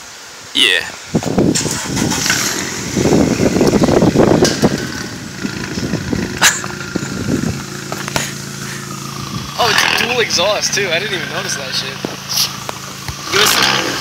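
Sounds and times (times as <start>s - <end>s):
car engine revving and idling: 1.2s - 14.0s.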